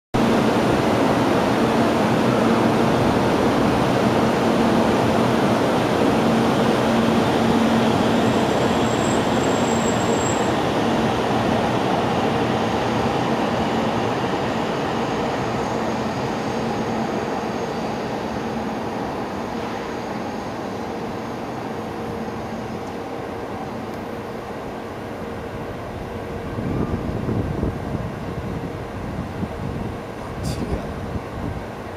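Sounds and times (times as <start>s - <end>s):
train motors and wheels rumbling: 0.2s - 31.9s.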